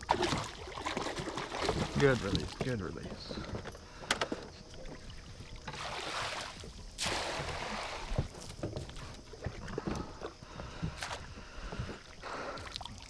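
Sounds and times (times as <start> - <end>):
water swishing around plastic boat: 0.0 - 13.0.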